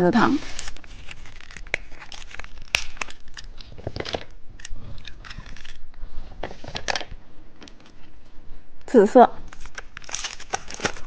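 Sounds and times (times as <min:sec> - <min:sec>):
plastic packaging crinkling: 0:00.4 - 0:08.1, 0:09.4 - 0:11.0.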